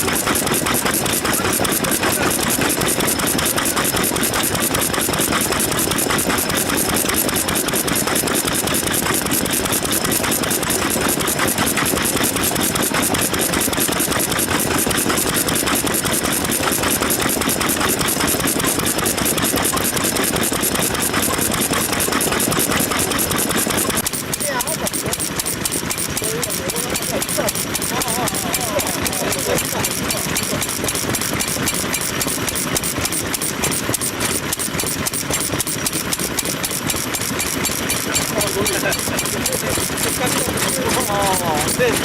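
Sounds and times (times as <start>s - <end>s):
stationary engine running: 0.0s - 42.0s.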